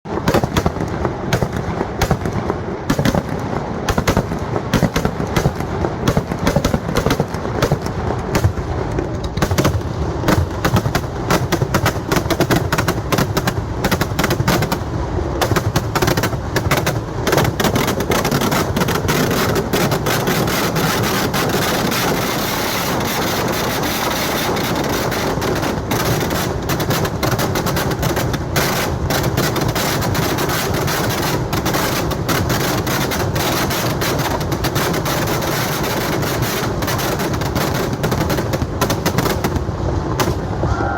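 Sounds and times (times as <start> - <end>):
firecracker bangs and crackles: 0.0 - 40.7.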